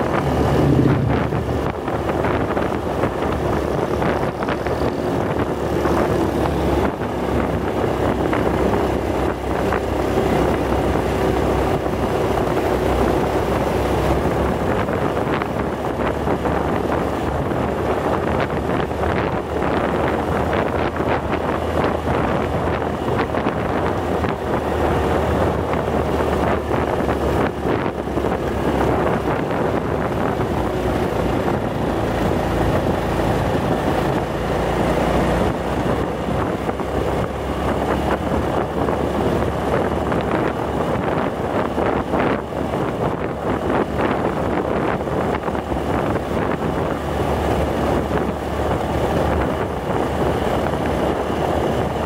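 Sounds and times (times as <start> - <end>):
motorcycle engine running: 0.0 - 52.0
wind buffeting microphone: 0.0 - 52.0.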